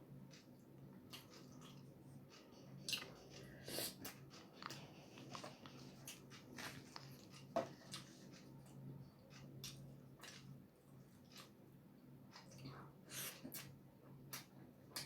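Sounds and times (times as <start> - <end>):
chewing food with wet smacks: 0.3 - 11.7, 12.3 - 15.0.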